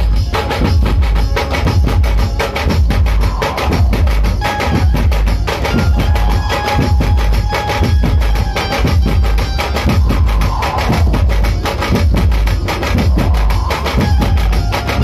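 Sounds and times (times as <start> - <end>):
barrel drums beaten with sticks: 0.0 - 15.0
held higher notes: 0.0 - 15.0.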